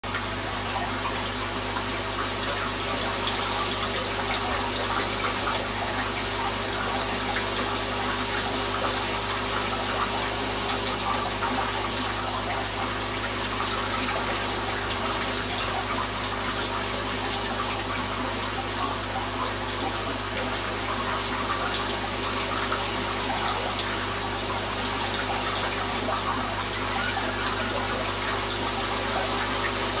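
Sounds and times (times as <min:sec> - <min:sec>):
aquarium water bubbling and trickling: 0:00.0 - 0:30.0.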